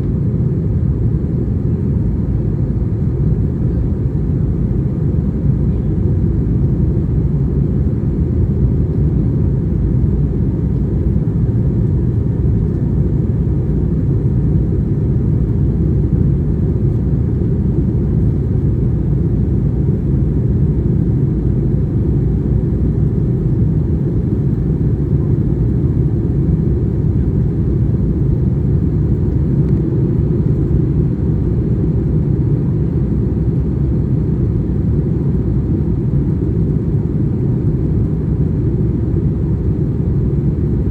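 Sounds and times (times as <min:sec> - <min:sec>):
airplane engines rumbling in cabin: 0:00.0 - 0:40.9.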